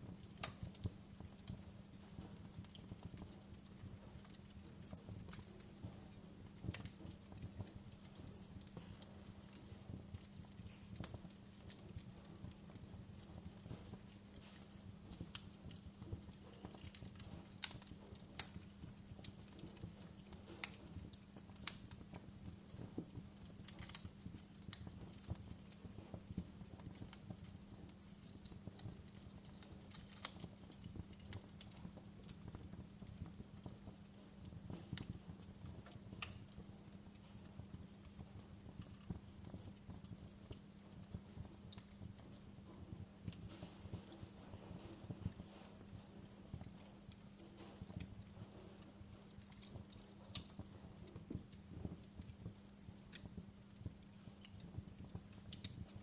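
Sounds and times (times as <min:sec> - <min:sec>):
faint low hum: 0:00.0 - 0:56.0
wood fire crackling: 0:00.0 - 0:56.0.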